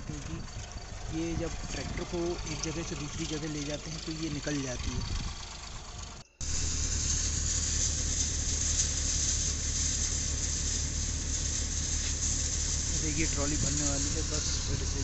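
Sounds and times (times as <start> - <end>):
grain thresher drone and hiss: 0.0 - 15.0.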